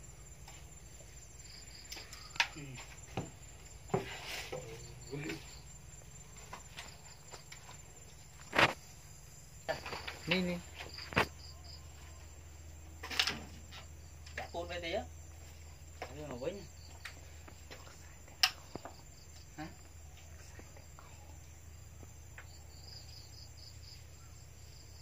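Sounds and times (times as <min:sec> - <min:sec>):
insect chirping: 0:00.0 - 0:25.0.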